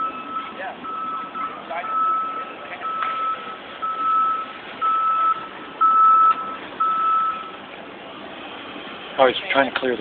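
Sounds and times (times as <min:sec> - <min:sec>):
vehicle backup alarm beeping: 0:00.0 - 0:09.2
road and engine noise: 0:00.0 - 0:10.0.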